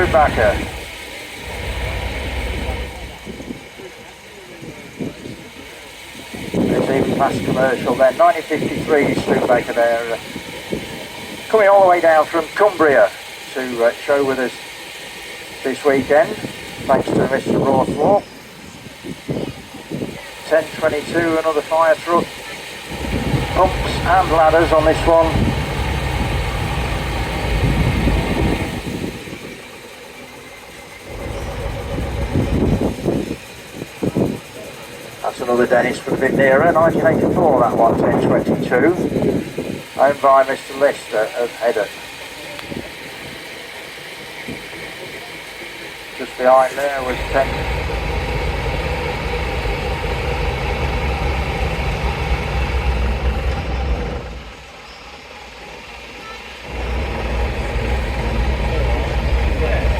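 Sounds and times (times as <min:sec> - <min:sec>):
fire engine rumbling past: 0:00.0 - 0:59.9.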